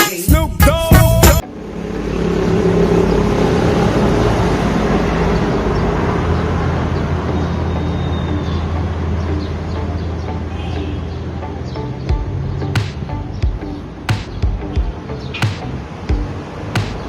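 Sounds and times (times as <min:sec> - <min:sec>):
street traffic rushing: 0:01.4 - 0:17.0.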